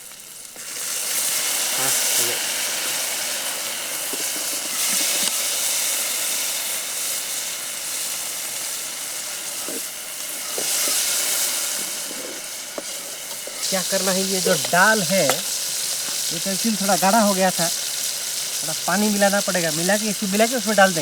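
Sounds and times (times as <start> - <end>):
masala sizzling in oil: 0.0 - 21.0.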